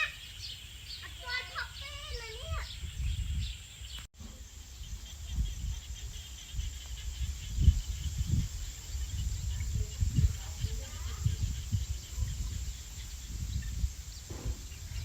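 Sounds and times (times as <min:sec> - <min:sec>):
insects chirping: 0:00.0 - 0:15.0
wind on microphone: 0:00.0 - 0:15.0.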